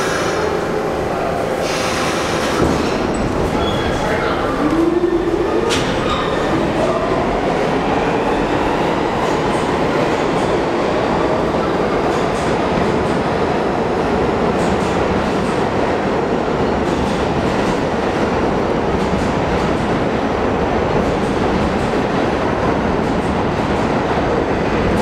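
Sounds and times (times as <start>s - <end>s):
subway train wheels rumbling: 0.0s - 25.0s.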